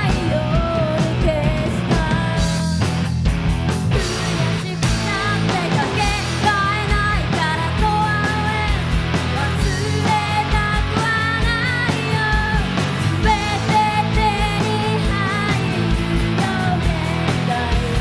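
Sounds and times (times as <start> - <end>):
woman singing: 0.0 - 2.8, 4.4 - 18.0
rock band playing: 0.0 - 18.0.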